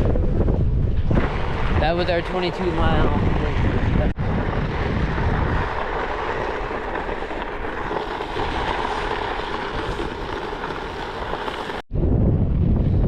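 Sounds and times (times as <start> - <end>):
rushing wind noise: 0.0 - 13.0.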